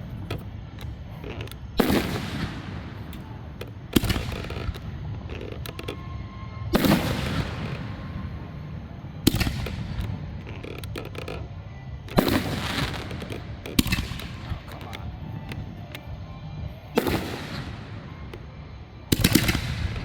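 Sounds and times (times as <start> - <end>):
small firework cracks: 0.0 - 8.2, 9.1 - 16.1, 17.0 - 20.0
fireworks shells booming: 0.0 - 8.3, 9.1 - 11.4, 12.0 - 15.6, 17.0 - 18.4, 19.1 - 20.0.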